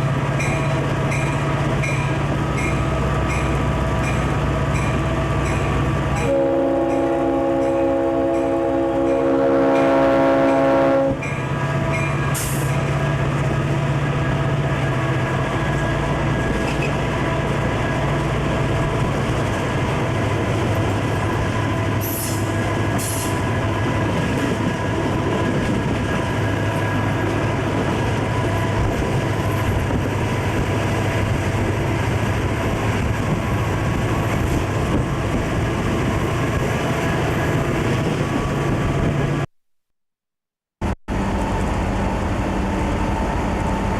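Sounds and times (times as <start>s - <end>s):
diesel locomotive engine drone: 0.0s - 39.5s, 40.8s - 43.9s
rolling rail noise: 0.0s - 39.5s, 41.1s - 43.9s.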